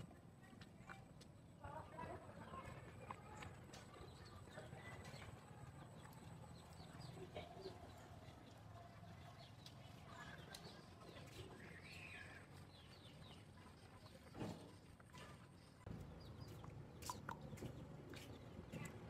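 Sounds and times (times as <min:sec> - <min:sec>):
puppies chewing and lapping: 0:02.0 - 0:19.0.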